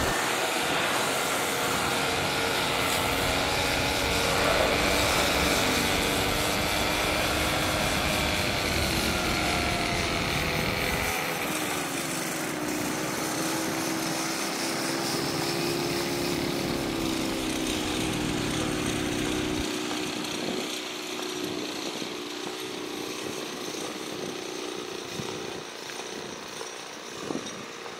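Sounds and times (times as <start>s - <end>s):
jet engine roar with whine: 0.0s - 27.9s.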